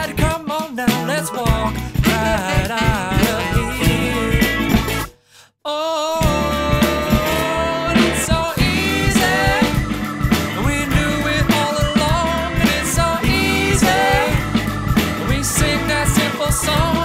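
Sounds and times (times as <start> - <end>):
rock song with singing: 0.0 - 5.1, 5.7 - 17.0.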